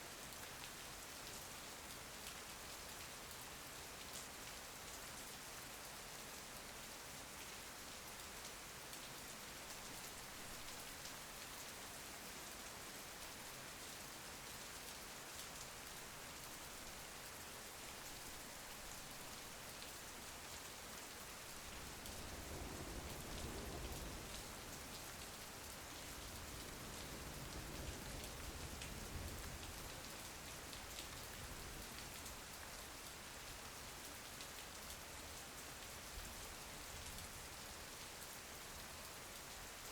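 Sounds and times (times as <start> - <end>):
rain pattering on a window: 0.1 - 39.9.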